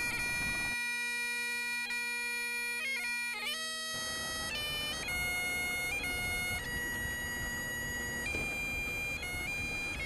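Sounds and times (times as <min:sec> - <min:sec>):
bagpipes playing slow tune: 0:00.0 - 0:10.0.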